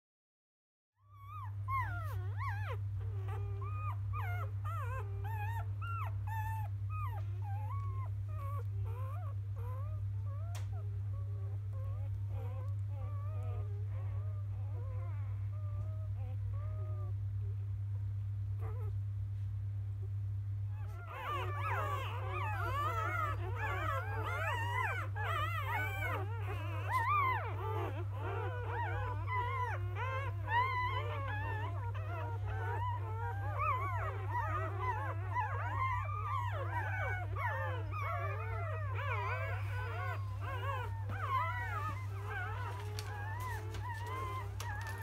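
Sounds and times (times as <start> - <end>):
steady low hum: 1.0 - 45.0
puppies whimpering and squealing: 1.1 - 17.6, 18.6 - 19.0, 20.7 - 45.0.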